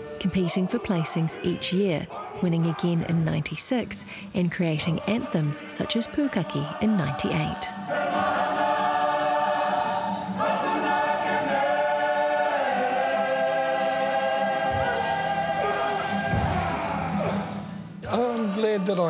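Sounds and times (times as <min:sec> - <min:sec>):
group singing: 0:00.0 - 0:03.6, 0:04.4 - 0:19.0.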